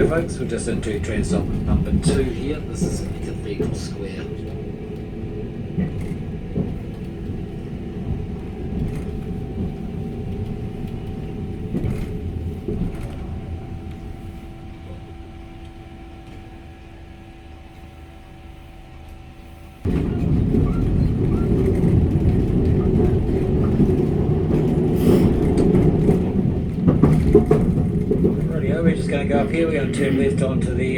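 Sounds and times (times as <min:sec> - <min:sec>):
tram knocks: 0:00.0 - 0:17.0, 0:19.8 - 0:30.9
electric tram rumbling: 0:00.0 - 0:30.9.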